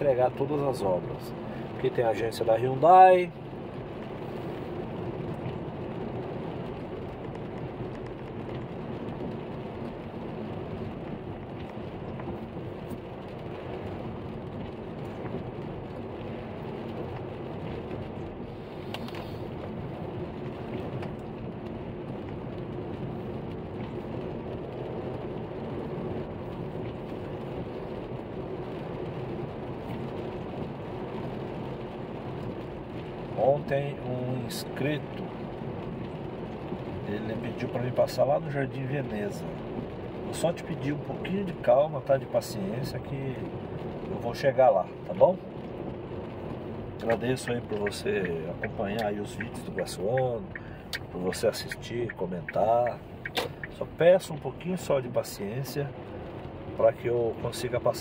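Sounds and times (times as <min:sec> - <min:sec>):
low engine hum: 0:00.0 - 0:58.0
tyres on wet asphalt: 0:00.0 - 0:58.0.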